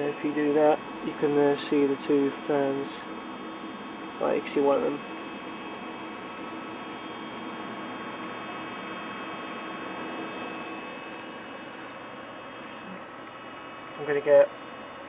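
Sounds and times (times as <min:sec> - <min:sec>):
computer fans whirring: 0:00.0 - 0:15.0.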